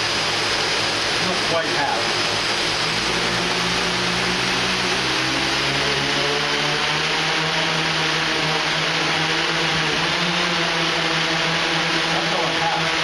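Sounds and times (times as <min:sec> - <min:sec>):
drone propellers droning: 0:00.0 - 0:13.0.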